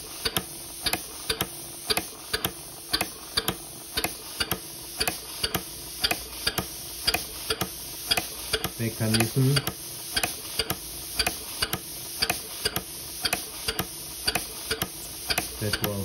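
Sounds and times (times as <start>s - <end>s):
metallic valve clicks: 0.2s - 16.0s.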